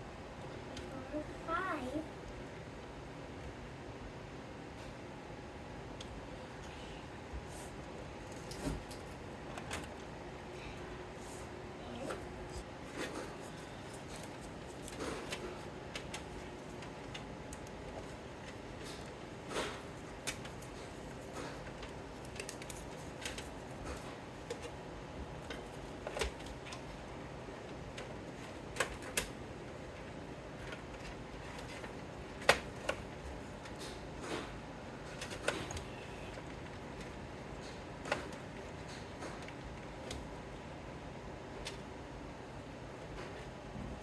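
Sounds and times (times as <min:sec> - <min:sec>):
faint steady background noise: 0:00.0 - 0:44.0.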